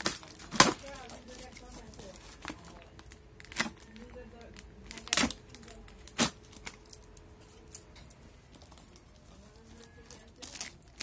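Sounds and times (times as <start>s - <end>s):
plastic and paper crinkling: 0.0s - 7.7s, 8.3s - 11.0s.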